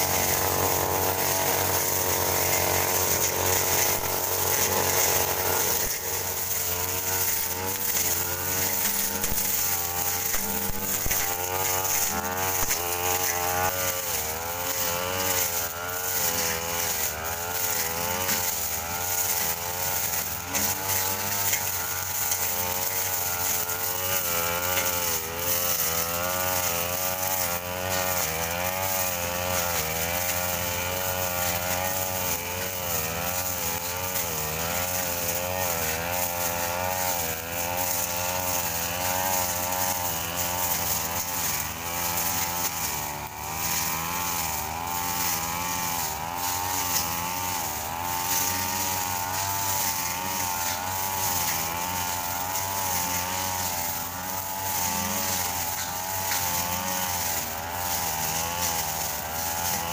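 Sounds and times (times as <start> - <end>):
brush cutter engine cutting grass: 0.0 - 59.9.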